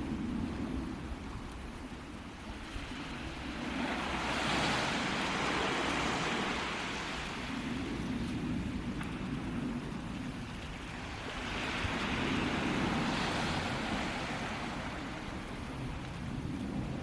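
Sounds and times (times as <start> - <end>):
surf washing on a beach: 0.0 - 17.0.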